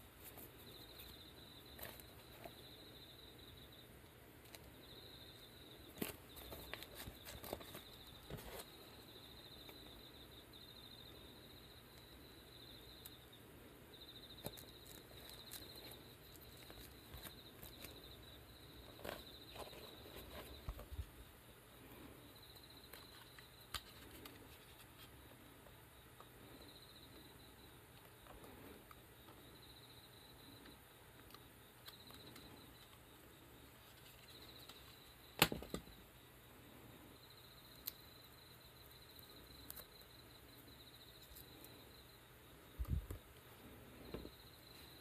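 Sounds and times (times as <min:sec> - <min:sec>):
faint cricket chirping: 0:00.0 - 0:45.0.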